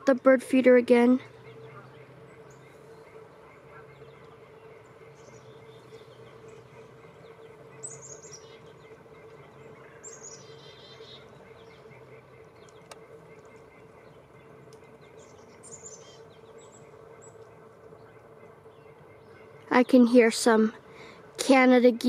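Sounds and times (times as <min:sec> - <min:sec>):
chickadee calling: 0:00.0 - 0:21.8
steady low hum: 0:00.0 - 0:22.0.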